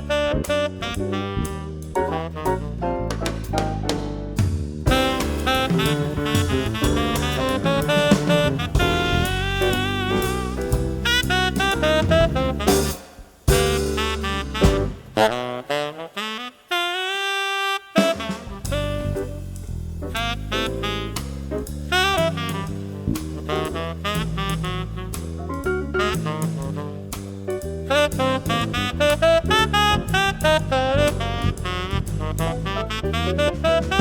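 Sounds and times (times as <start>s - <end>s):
saxophone melody: 0.0s - 3.0s, 4.9s - 19.5s, 20.2s - 27.2s, 27.9s - 34.0s
jazz band music: 0.0s - 34.0s.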